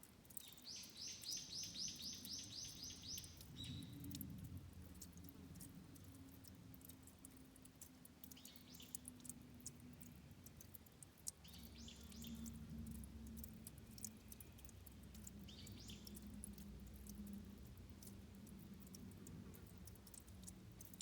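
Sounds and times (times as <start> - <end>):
faint ticks: 0.0 - 21.0.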